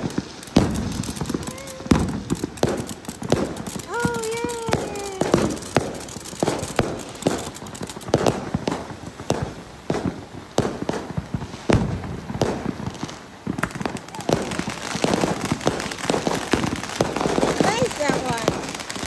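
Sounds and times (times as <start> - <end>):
firecrackers banging and popping: 0.0 - 19.0
steady crackle: 0.0 - 19.0.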